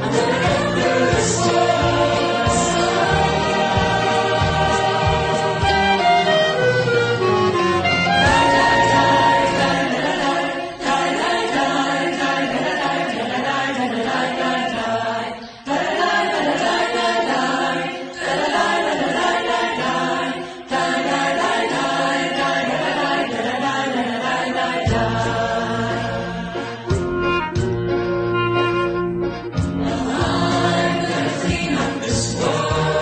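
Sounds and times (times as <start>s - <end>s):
choir singing: 0.0s - 27.6s, 29.5s - 33.0s.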